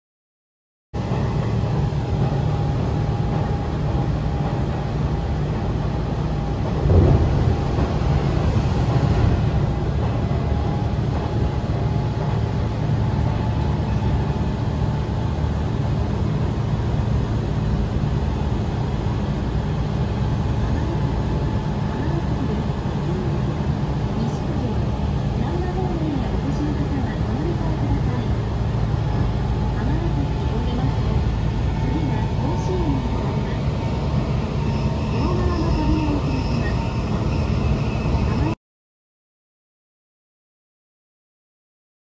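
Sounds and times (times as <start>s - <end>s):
train rumbling inside carriage: 1.0s - 38.6s.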